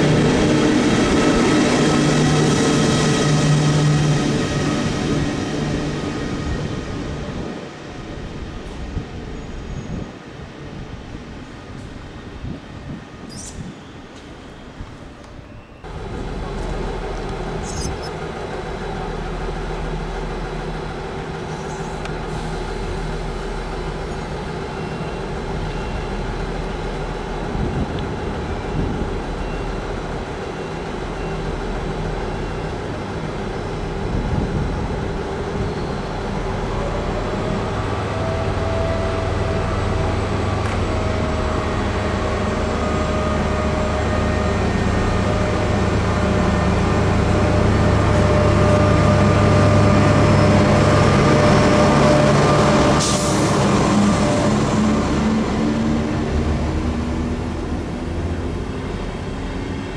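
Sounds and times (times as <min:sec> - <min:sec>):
passenger train rumbling past: 0:00.0 - 0:59.9.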